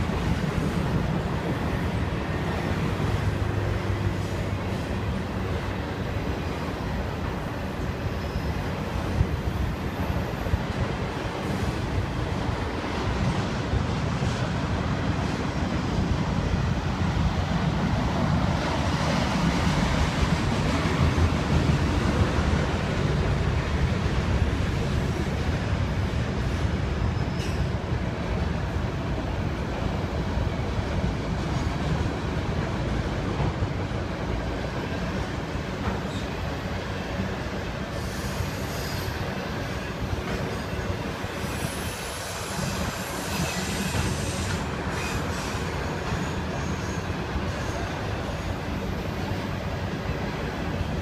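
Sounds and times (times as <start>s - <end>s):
freight train rumbling over bridge: 0.0s - 51.0s.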